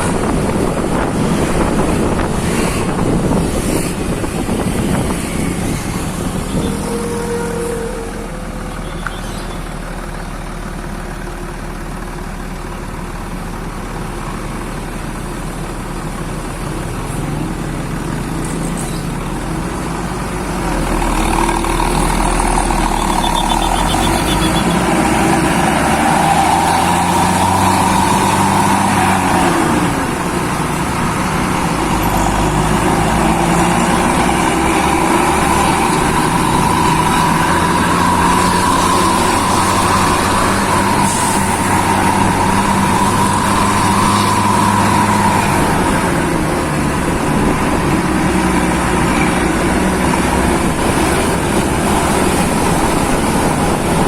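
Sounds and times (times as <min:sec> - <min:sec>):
heavy vehicle engine running: 0:00.0 - 0:54.0
road noise: 0:00.0 - 0:54.0.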